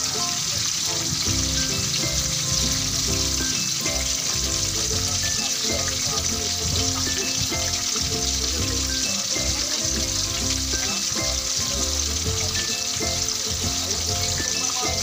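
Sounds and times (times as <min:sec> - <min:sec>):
fish frying in hot oil: 0:00.0 - 0:15.0.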